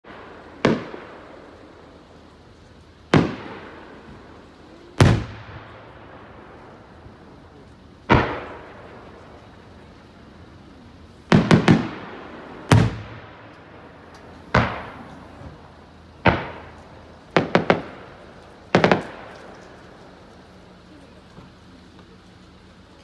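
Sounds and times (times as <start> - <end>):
firework shells bursting: 0.1 - 20.8.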